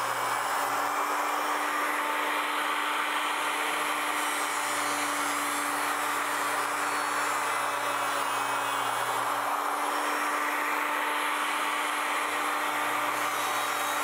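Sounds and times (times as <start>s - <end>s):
electric planer cutting wood: 0.0s - 14.0s.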